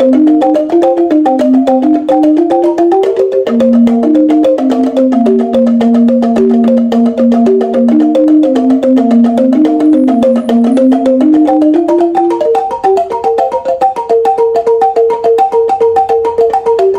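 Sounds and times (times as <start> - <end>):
bamboo instrument melody: 0.0 - 16.9.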